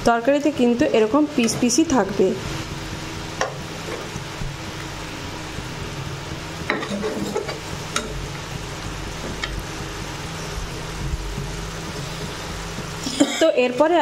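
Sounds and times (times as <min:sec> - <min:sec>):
sauce sizzling in a pan: 0:00.2 - 0:14.0.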